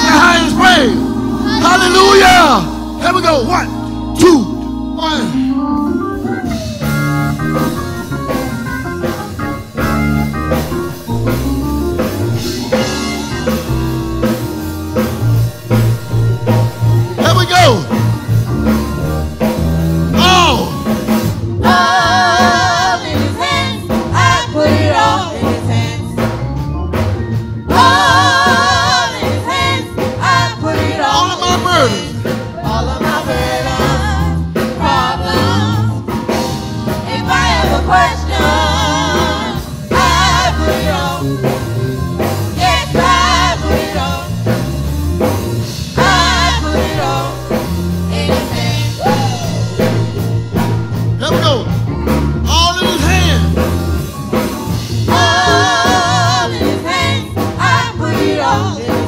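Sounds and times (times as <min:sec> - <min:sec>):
voices singing gospel: 0:00.0 - 0:26.6, 0:27.2 - 0:59.0
band with bass and drums: 0:00.0 - 0:59.0.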